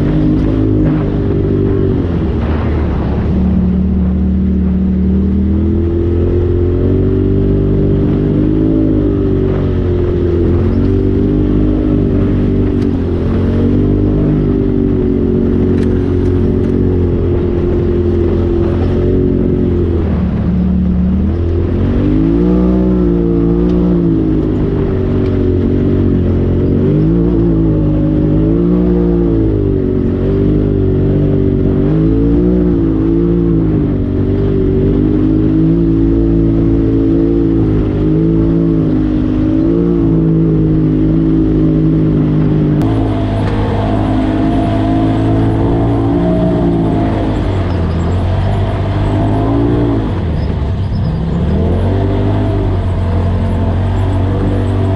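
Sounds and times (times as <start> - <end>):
vehicle engine revving: 0.0 - 54.9.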